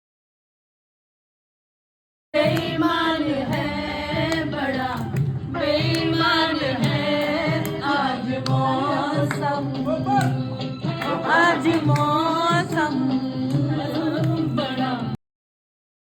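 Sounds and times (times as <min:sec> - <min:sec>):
person singing with music: 0:02.4 - 0:15.2.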